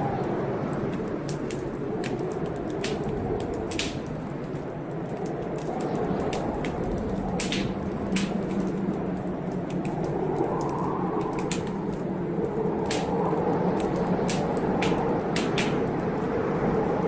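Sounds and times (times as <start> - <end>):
low rushing noise of fire: 0.0 - 17.0
wood fire crackling and popping: 0.0 - 17.0.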